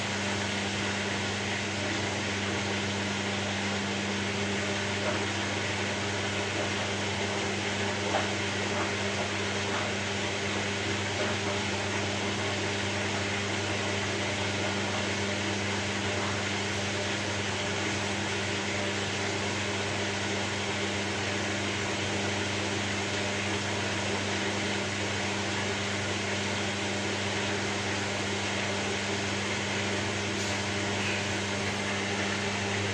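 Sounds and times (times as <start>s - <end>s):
low motor-like hum: 0.0s - 10.0s, 14.0s - 32.9s.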